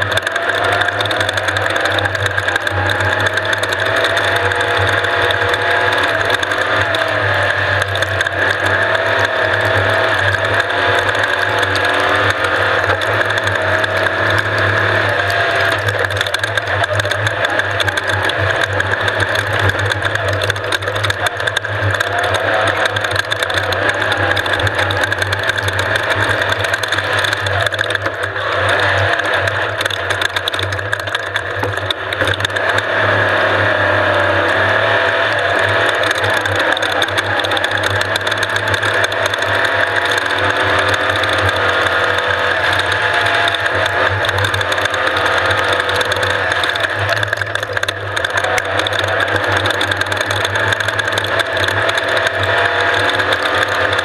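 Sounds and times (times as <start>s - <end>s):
engine running with rattling: 0.0s - 54.0s.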